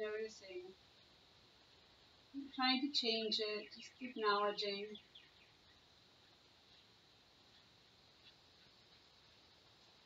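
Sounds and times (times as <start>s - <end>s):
faint high hiss: 0.0s - 10.0s.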